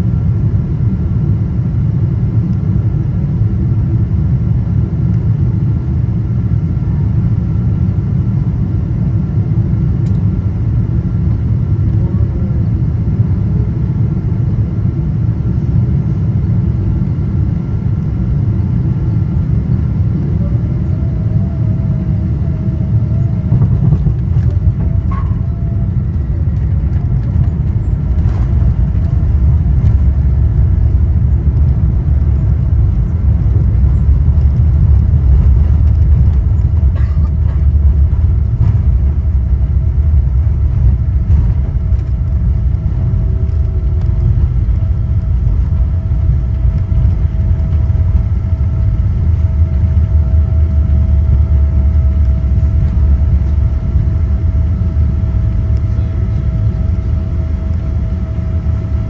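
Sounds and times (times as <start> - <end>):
thin steady engine tone: 0.0 - 59.0
wheels and airframe rumble: 0.0 - 59.0.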